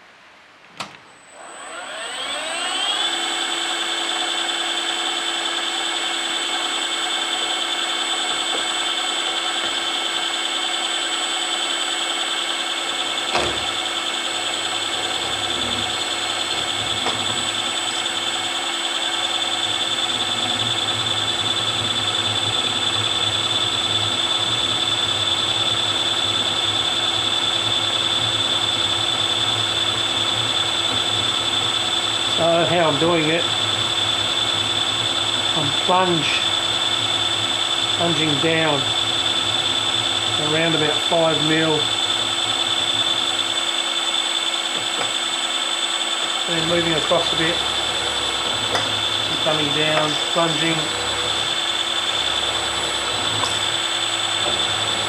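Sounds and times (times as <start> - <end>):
milling machine spindle whine: 1.2 - 55.0.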